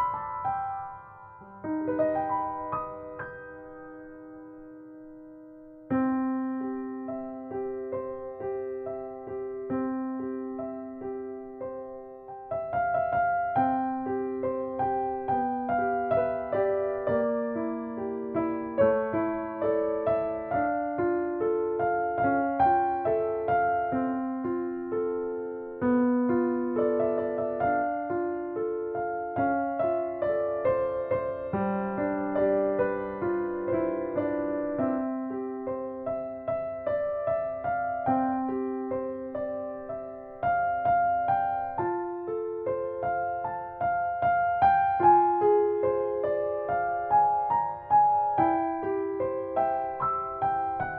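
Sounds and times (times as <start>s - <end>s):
gentle piano music: 0.0s - 50.9s.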